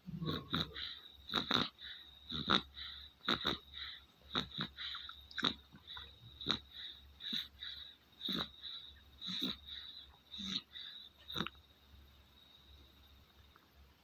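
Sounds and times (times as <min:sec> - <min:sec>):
baby snoring: 0:00.0 - 0:11.6.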